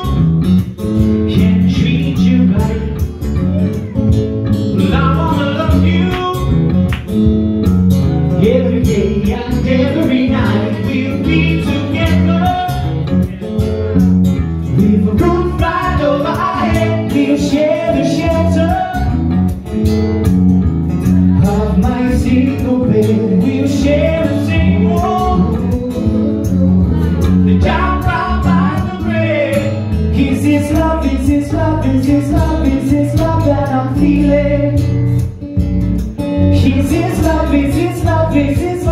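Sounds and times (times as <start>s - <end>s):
acoustic guitar: 0.0s - 38.9s
bass guitar: 0.0s - 38.9s.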